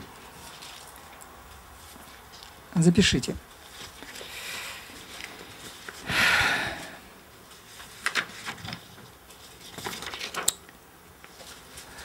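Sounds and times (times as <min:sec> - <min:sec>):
paper rustling and shuffling: 0:00.0 - 0:06.1, 0:07.4 - 0:12.0.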